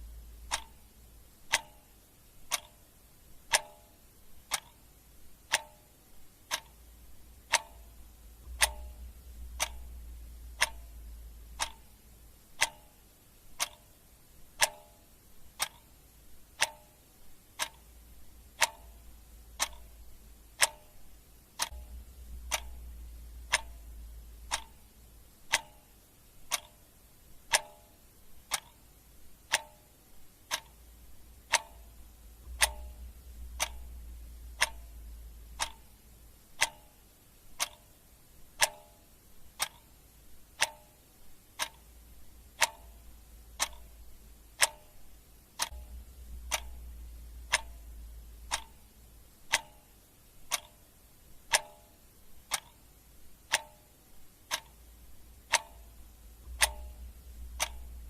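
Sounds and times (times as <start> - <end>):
clock ticking: 0.0 - 58.0
faint low hum: 0.0 - 58.0.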